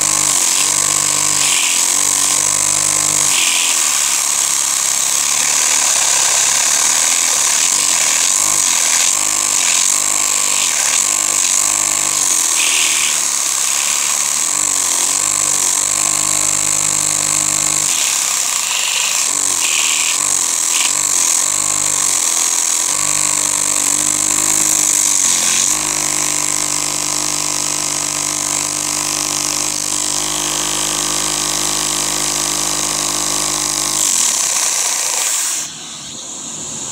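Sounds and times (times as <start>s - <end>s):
vacuum cleaner hissing: 0.0s - 36.9s.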